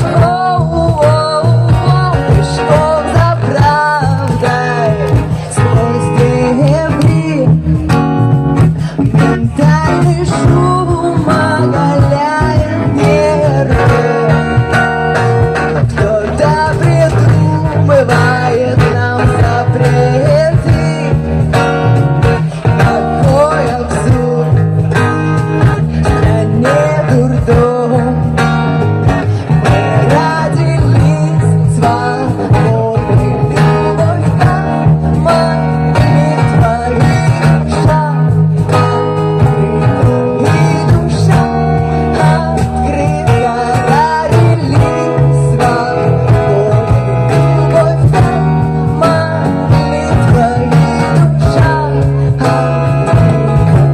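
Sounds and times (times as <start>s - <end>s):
guitar-led song: 0.0s - 53.9s
steady bass: 0.0s - 53.9s.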